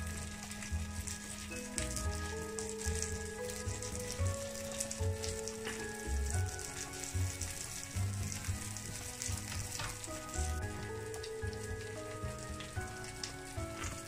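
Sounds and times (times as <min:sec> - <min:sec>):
background music: 0:00.0 - 0:14.0
food sizzling on a griddle: 0:00.0 - 0:14.0.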